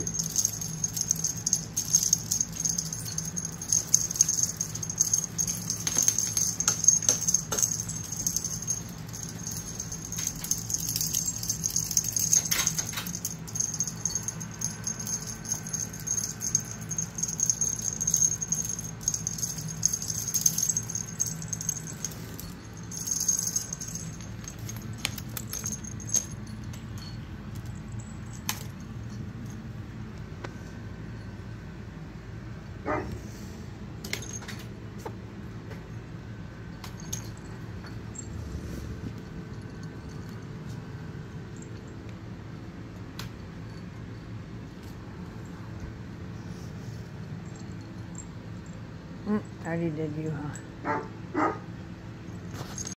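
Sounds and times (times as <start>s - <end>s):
small collar bells jingling: 0.0s - 29.8s, 34.1s - 34.6s, 36.5s - 50.8s, 52.2s - 52.9s.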